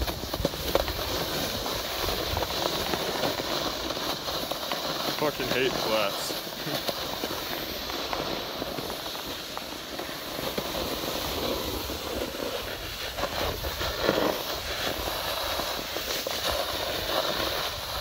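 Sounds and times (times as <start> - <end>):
snowboard scraping over snow: 0.0 - 18.0
wind: 0.0 - 18.0.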